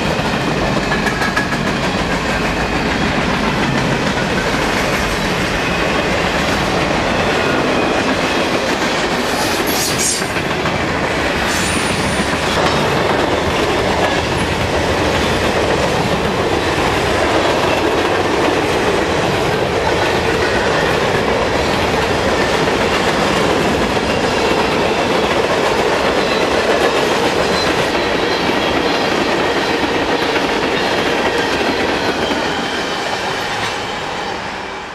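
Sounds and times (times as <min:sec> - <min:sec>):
train wheels on rail: 0:00.0 - 0:34.9.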